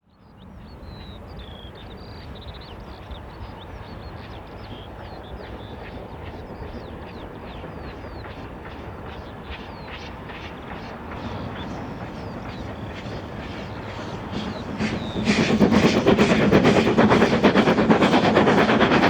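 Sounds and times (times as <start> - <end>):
songbirds singing: 0.1 - 17.3.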